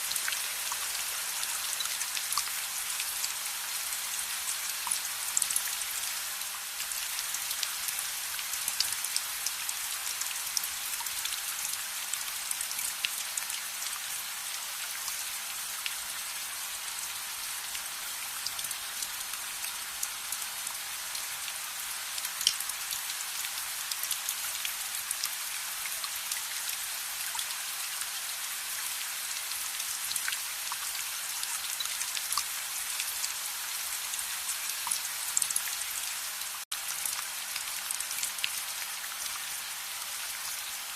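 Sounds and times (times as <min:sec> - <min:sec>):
rain hiss with ticks: 0:00.0 - 0:40.9.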